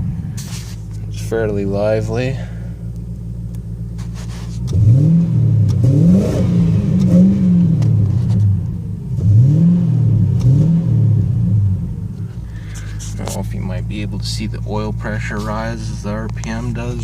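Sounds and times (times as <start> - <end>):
vee eight engine revving: 0.0 - 17.0.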